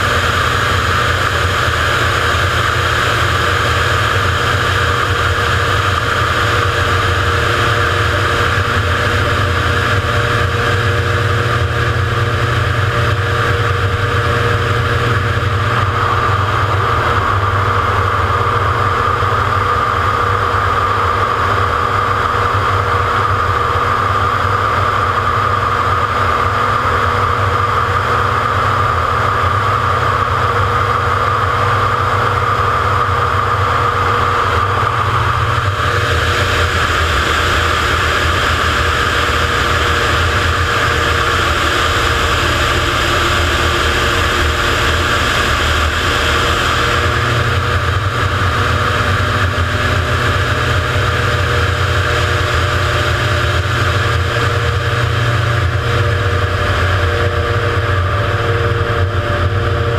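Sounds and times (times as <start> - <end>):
propeller plane engine: 0.0 - 59.9
wind rush: 0.0 - 59.9.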